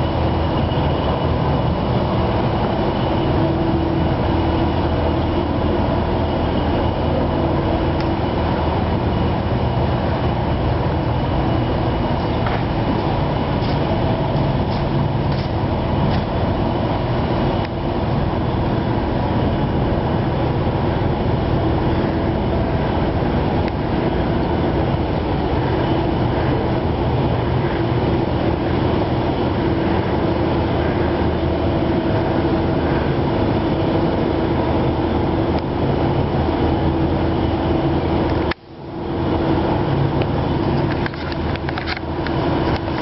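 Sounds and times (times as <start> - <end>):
loud mechanical rumble: 0.0 - 43.0.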